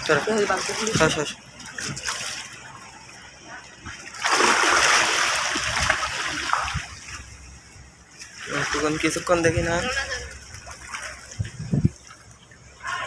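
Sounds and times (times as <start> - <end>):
water sloshing: 0.0 - 13.0
water splash: 0.0 - 13.0.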